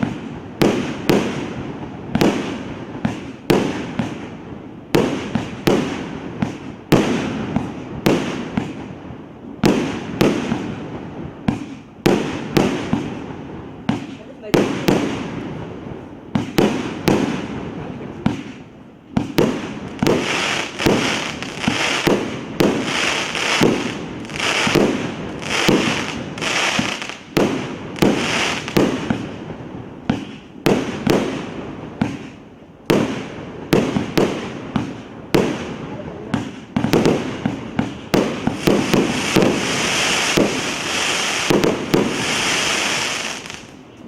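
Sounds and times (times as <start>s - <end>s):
fireworks bangs with hiss: 0.0s - 44.0s.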